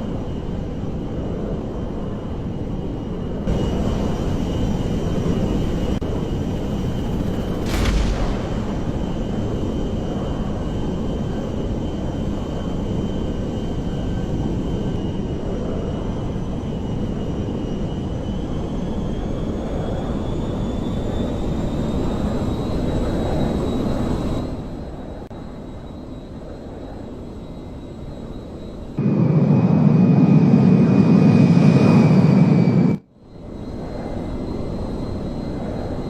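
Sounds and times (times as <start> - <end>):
high turbine whine: 0.0 - 36.0
jet engines rumbling: 0.0 - 36.0.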